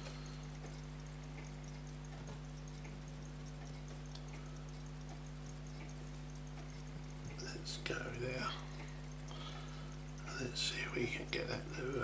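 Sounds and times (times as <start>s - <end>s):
faint small clicks: 0.0s - 12.0s
low electrical hum: 0.0s - 12.0s.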